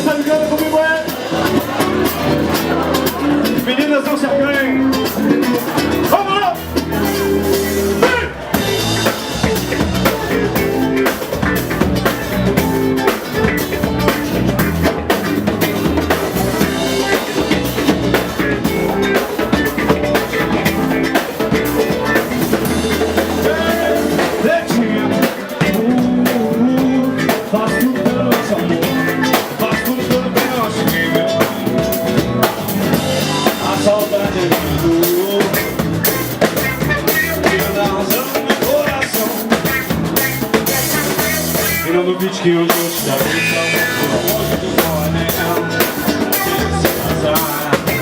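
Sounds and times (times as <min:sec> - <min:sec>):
live band playing samba rock: 0:00.0 - 0:48.0.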